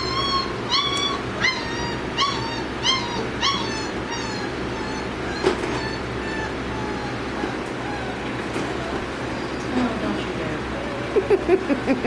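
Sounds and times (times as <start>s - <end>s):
puppies whimpering: 0.0s - 9.8s, 10.6s - 12.0s.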